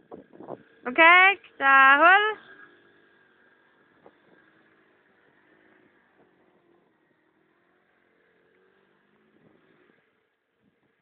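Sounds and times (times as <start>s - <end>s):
faint scooter engine running: 0.0s - 11.0s.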